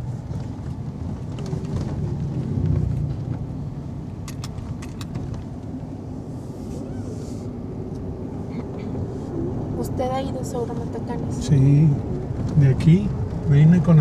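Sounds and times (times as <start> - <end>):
vehicle cabin road noise: 0.0 - 14.0.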